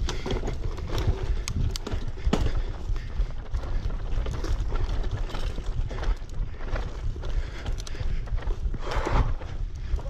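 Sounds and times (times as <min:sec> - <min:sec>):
bicycle rolling on dirt trail: 0:00.0 - 0:10.0
bike clicks and rattles: 0:00.0 - 0:10.0.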